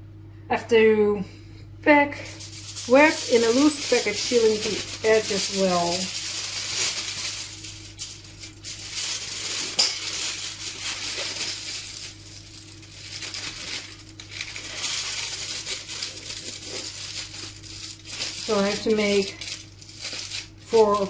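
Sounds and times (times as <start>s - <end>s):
aluminium foil crinkling: 2.2s - 21.0s.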